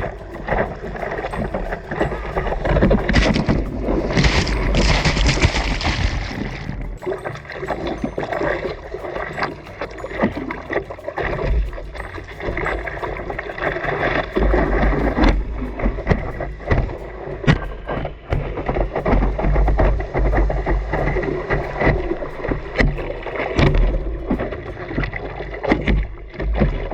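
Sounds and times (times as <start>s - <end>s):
sea water splashing: 0.0s - 26.9s
wind buffeting microphone: 0.0s - 26.9s.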